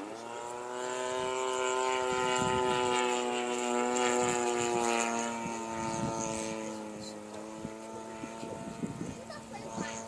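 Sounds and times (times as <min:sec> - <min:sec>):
model plane motor and propeller: 0:00.0 - 0:10.0.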